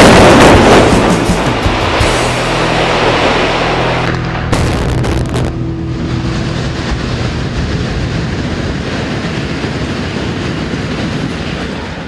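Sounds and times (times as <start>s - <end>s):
building collapsing rumble: 0.0s - 12.0s.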